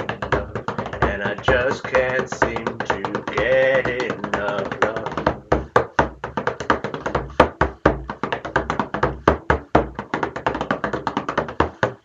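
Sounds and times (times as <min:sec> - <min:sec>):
frame drum played with tipper: 0:00.0 - 0:12.0.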